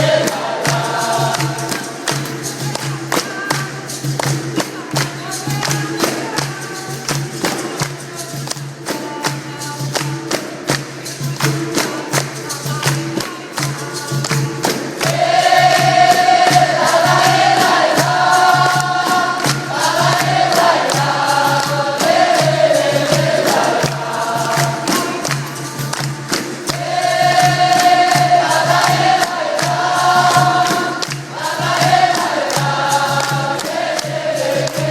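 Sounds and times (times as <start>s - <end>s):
group singing: 0.0s - 34.9s
percussion strikes: 0.0s - 34.9s.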